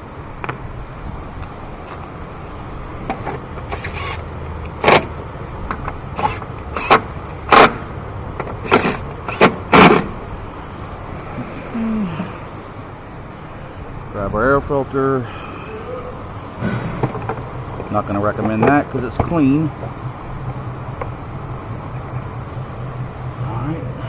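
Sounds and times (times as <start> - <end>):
engine parts clacking and knocking: 0.0 - 11.3, 16.0 - 24.0.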